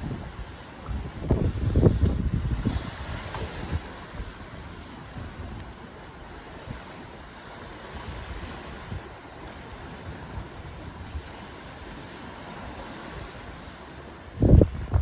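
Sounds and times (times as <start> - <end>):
surf washing onto gravel: 0.0 - 15.0
wind buffeting microphone: 0.0 - 15.0.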